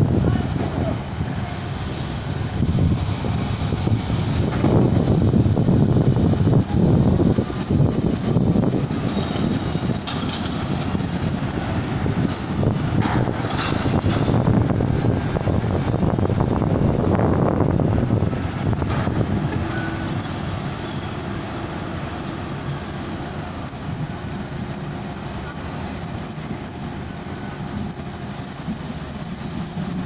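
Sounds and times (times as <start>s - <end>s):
container forklift engine: 0.0s - 30.0s
truck engines running: 0.0s - 30.0s.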